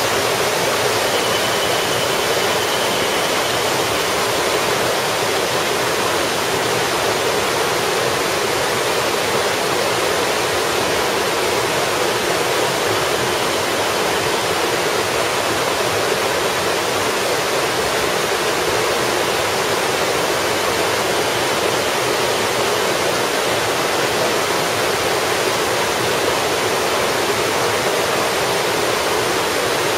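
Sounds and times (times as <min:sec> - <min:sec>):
waterfall rushing over rocks: 0:00.0 - 0:29.9.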